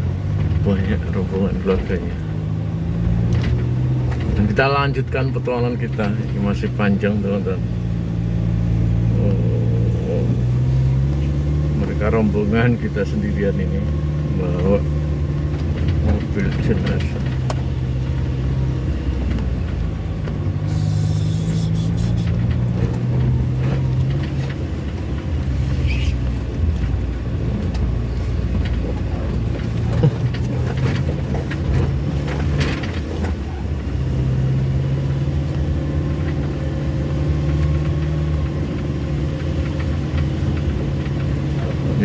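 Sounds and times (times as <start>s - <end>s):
vehicle knocks and rattles: 0.0s - 9.4s, 10.1s - 20.8s, 22.1s - 42.0s
car engine running: 0.0s - 42.0s.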